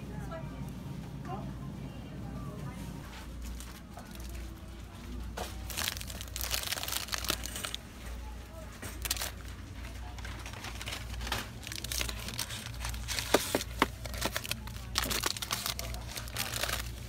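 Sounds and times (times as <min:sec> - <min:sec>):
steady low hum: 0:00.0 - 0:17.0
plastic wrappers crinkling: 0:03.2 - 0:17.0.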